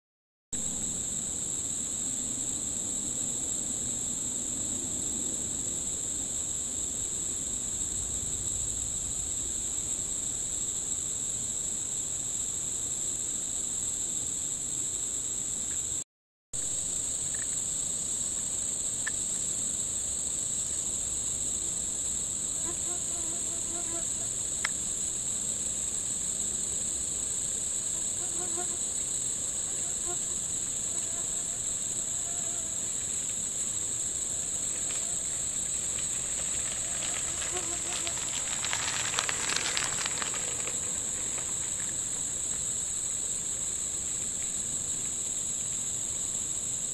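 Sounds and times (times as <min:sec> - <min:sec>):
insect chorus droning: 0:00.6 - 0:16.0, 0:16.6 - 0:46.9.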